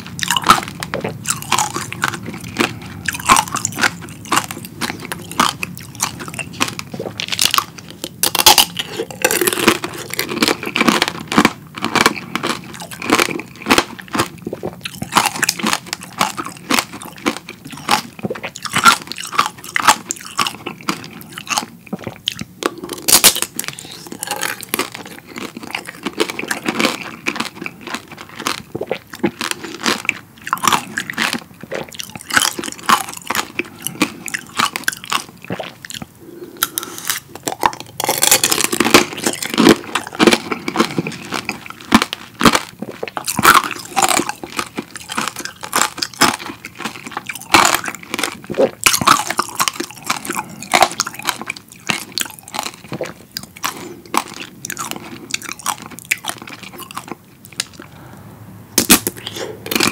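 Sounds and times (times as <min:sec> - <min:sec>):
fruit chewing: 0:00.0 - 0:58.1, 0:58.8 - 0:59.9
candy shell crunching: 0:00.1 - 0:57.9, 0:58.8 - 0:59.9.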